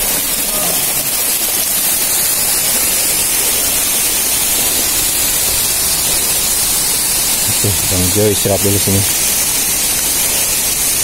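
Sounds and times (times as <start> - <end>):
falling water rushing: 0.0 - 11.0.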